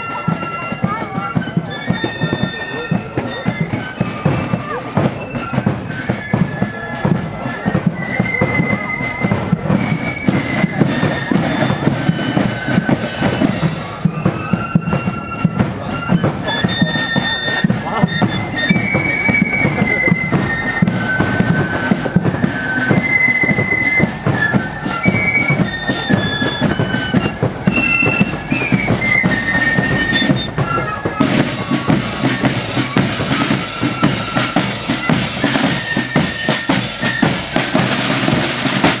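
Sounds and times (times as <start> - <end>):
flute melody: 0.0 - 39.0
snare and bass drums: 0.0 - 39.0.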